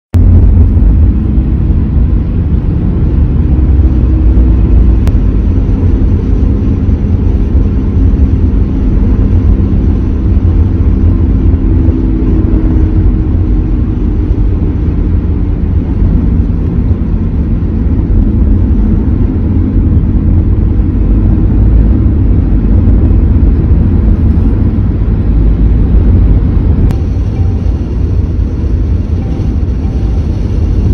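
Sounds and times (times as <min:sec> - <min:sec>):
low drone of car cabin road noise: 0:00.1 - 0:30.9
wheel bearing hum: 0:00.2 - 0:30.9.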